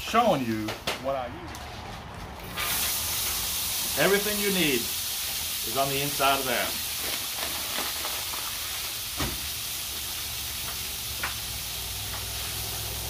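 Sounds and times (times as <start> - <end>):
food sizzling on a griddle: 2.5 - 13.0.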